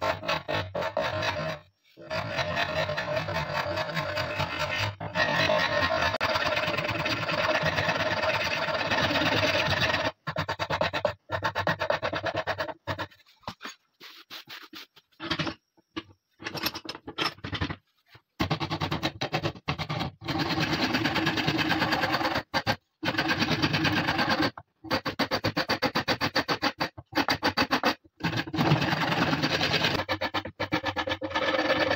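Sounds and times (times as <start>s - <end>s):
wood rasp scraping wood: 0.0s - 14.8s, 18.4s - 31.9s.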